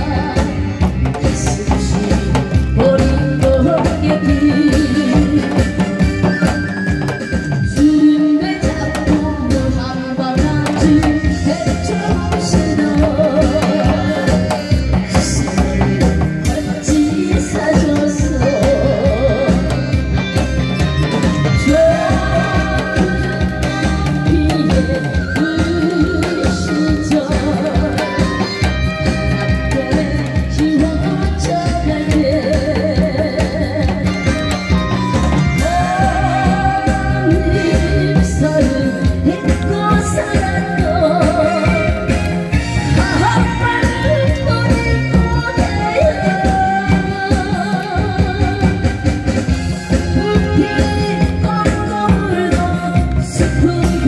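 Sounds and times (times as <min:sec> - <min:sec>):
backing track with drum beat: 0:00.0 - 0:54.0
woman singing with vibrato: 0:00.0 - 0:54.0.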